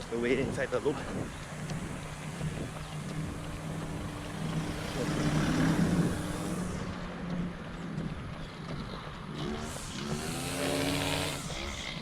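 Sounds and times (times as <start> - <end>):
wind noise on microphone: 0.0 - 12.0
vehicle passing: 0.7 - 8.4, 9.0 - 12.0.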